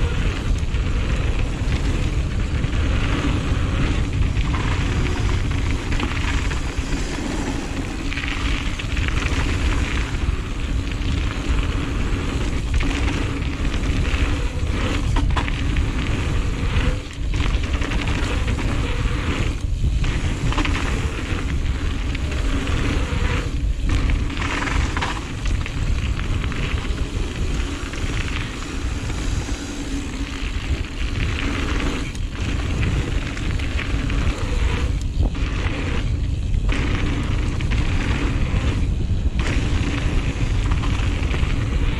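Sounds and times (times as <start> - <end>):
bike rattling: 0.0 - 41.9
tyres crackling on dirt: 0.0 - 41.9
wind rumble on microphone: 0.0 - 41.9.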